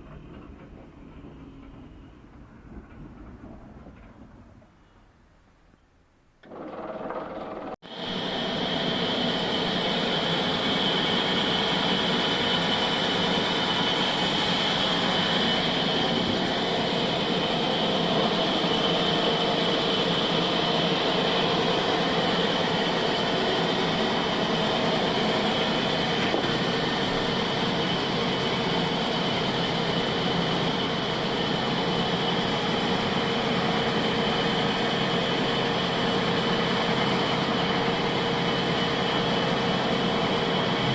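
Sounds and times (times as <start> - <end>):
bandsaw running with high whine: 6.5 - 40.9.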